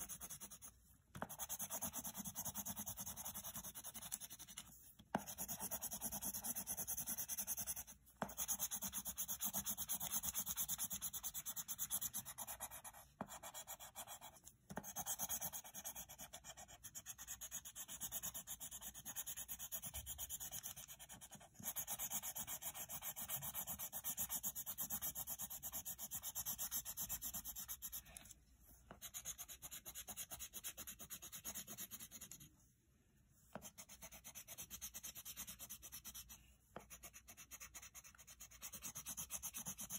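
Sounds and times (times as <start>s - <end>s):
pencil scratching on paper: 0.0s - 32.5s, 33.5s - 39.9s.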